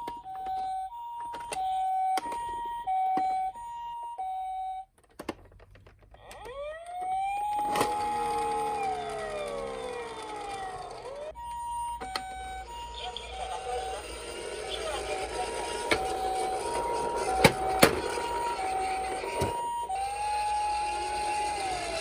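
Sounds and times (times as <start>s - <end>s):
wailing toy siren: 0.0s - 4.9s, 6.1s - 22.0s
hi-lo toy ambulance siren: 0.0s - 5.0s, 6.1s - 22.0s.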